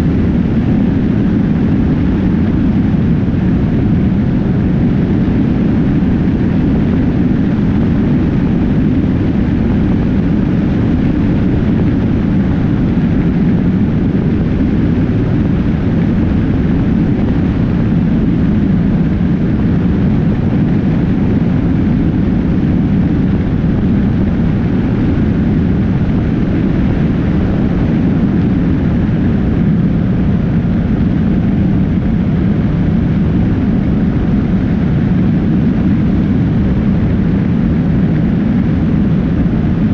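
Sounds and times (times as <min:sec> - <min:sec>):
motorcycle engine drone: 0:00.0 - 0:39.9
motorcycle road noise: 0:00.0 - 0:39.9
wind rush: 0:00.0 - 0:39.9.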